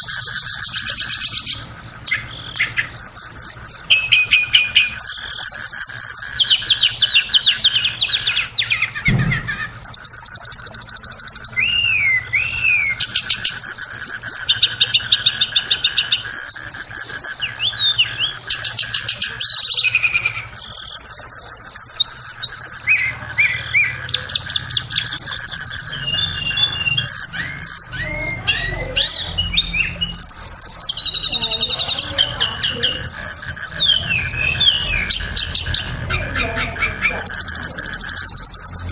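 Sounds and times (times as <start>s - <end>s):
bird singing high whistles and trills: 0.0s - 38.9s.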